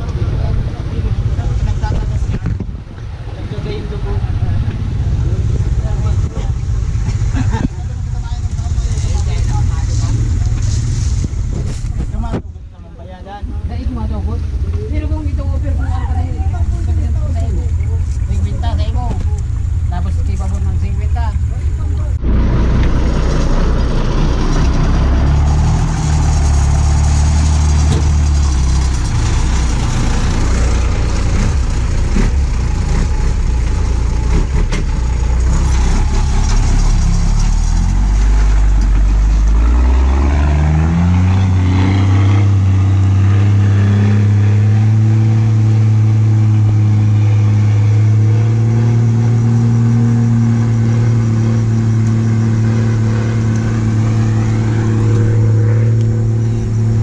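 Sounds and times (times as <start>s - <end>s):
vehicle engine running and revving: 0.0s - 57.0s.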